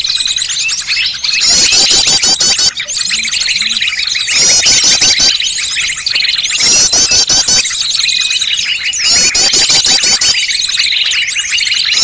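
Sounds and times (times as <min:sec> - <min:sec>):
fast trilled bird notes: 0:00.0 - 0:12.0
songbirds chirping chorus: 0:00.0 - 0:12.0.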